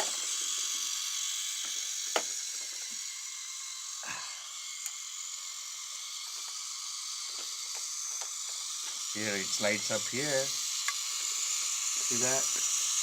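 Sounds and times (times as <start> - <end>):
toy train clicks: 0.0 - 3.9, 4.5 - 13.0
toy train motor whirring: 0.0 - 13.0.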